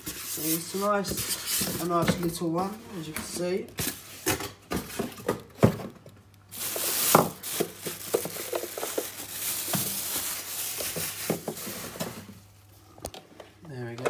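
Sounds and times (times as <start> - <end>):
plastic bag rustling: 0.0 - 12.8.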